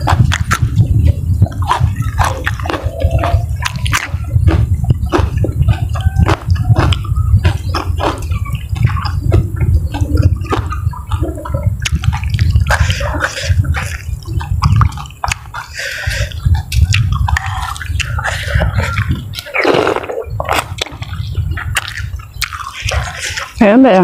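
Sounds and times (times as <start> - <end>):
person chewing food: 0.0 - 23.6
wet mouth clicks and smacks: 0.0 - 23.6
low rumble: 0.0 - 24.0.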